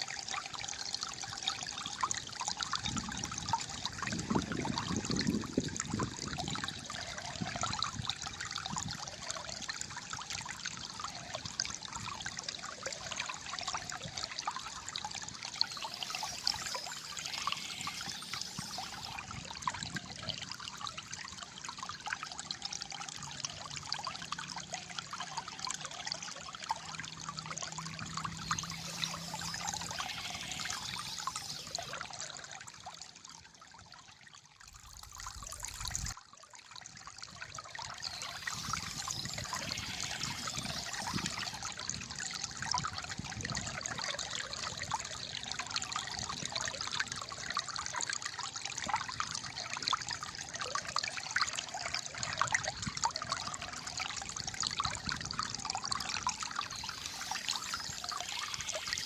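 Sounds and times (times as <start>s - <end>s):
water gurgling and trickling: 0.0s - 59.0s.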